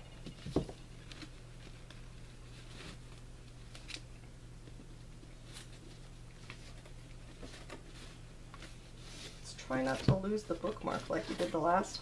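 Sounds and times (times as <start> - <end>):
low electrical hum: 0.0 - 12.0
book and packaging rustling: 0.1 - 12.0.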